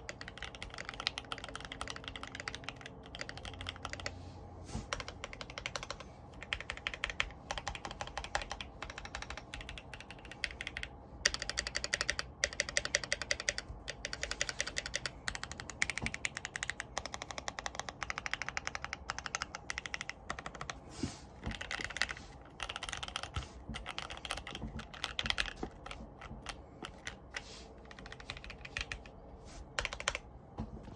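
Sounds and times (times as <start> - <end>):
mechanical keyboard typing: 0.0 - 4.1, 4.9 - 20.8, 21.4 - 29.2, 29.8 - 30.2.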